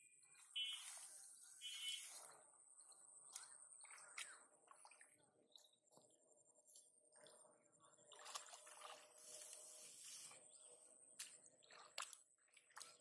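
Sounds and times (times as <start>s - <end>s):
sloshing of shallow muddy water: 0.3s - 13.0s.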